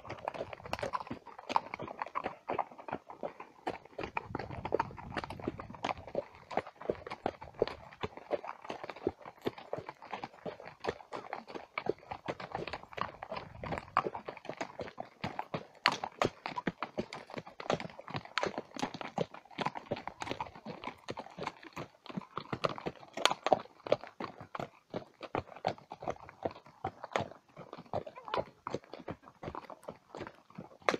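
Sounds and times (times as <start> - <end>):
horse hooves on stony track: 0.0 - 30.9.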